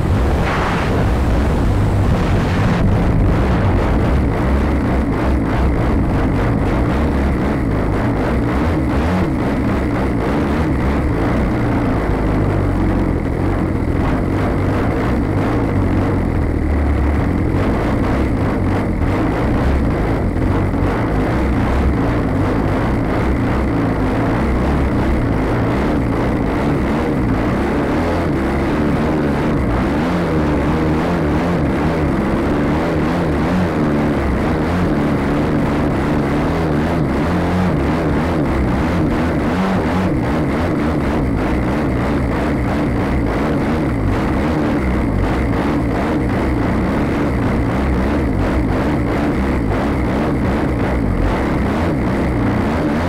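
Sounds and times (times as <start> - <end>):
small plane engine and propeller: 0.0 - 53.0
wind noise: 0.0 - 53.0.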